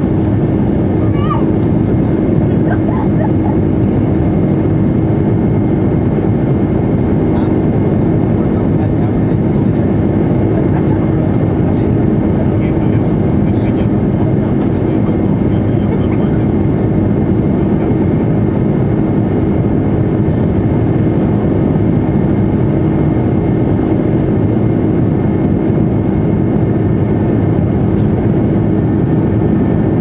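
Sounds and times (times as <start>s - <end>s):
jet engines droning: 0.0s - 30.0s.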